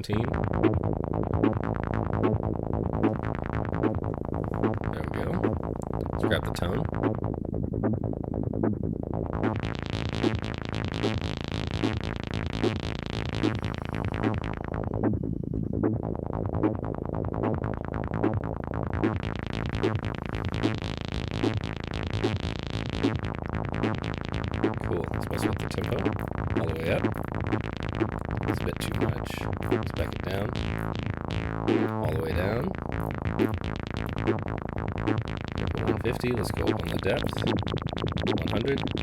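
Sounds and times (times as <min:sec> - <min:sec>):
pulsing synth note pattern: 0:00.0 - 0:39.0.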